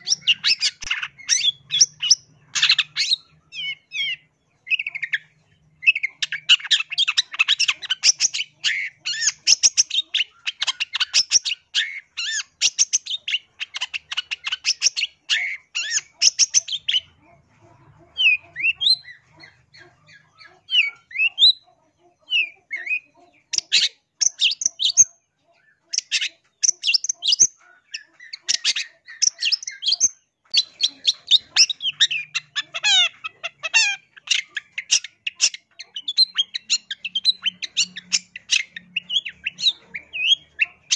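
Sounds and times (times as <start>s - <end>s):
bird chattering and chirping: 0.0s - 40.9s.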